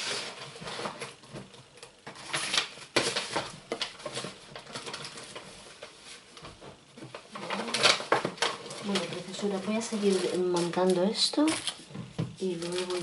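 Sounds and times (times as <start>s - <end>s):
papers rustling: 0.0s - 13.0s.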